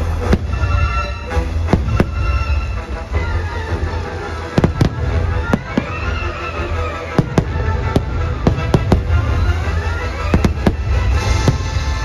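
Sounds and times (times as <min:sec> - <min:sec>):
fireworks bangs: 0:00.0 - 0:12.0
fireworks hissing crackle: 0:00.0 - 0:12.0.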